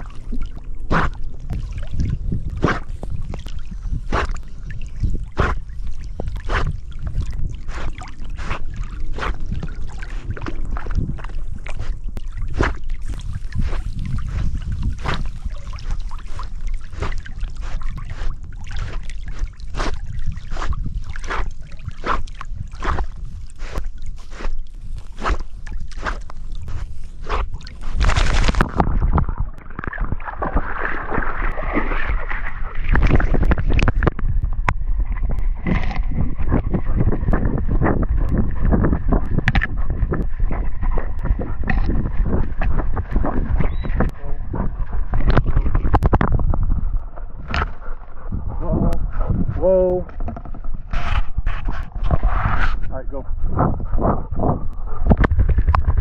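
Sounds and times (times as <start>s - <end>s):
steady low rumble: 0.0s - 31.2s, 32.2s - 56.0s
dog swimming and splashing: 0.0s - 52.8s.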